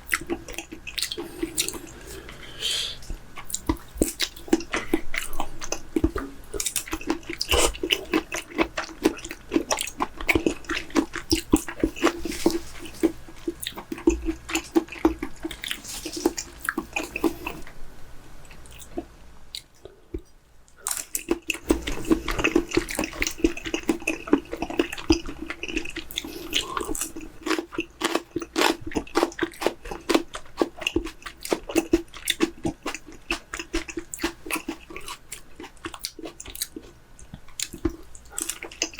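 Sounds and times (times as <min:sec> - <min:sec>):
wet chewing and biting: 0:00.0 - 0:02.0, 0:03.4 - 0:17.7, 0:18.6 - 0:38.9.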